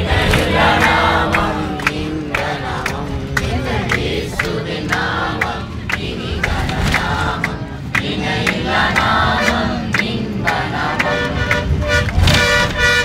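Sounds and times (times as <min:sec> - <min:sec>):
group of voices singing: 0:00.0 - 0:12.2
low rumble of moving bus: 0:00.0 - 0:13.0.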